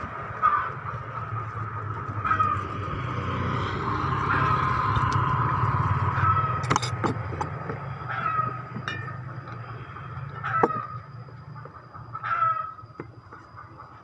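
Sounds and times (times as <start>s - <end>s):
vehicle engine passing: 0.0s - 12.1s.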